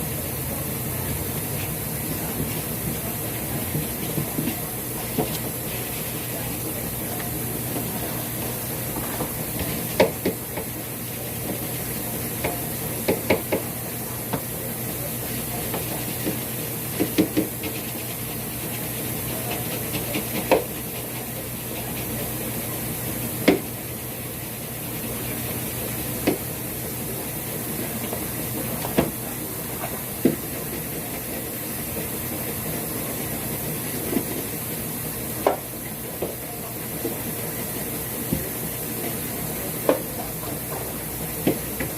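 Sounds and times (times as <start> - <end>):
steady hum and hiss: 0.0 - 41.9.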